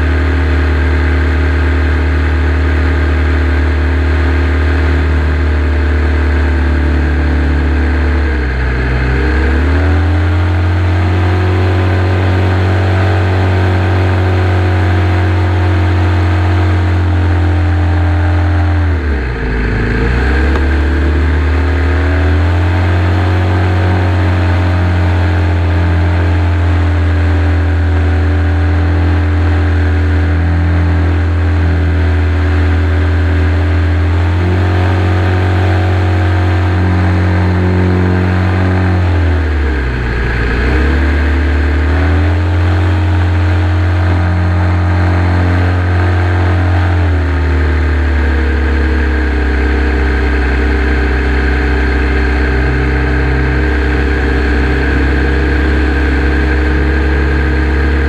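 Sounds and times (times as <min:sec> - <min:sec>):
model plane radial engine running: 0:00.0 - 0:58.0.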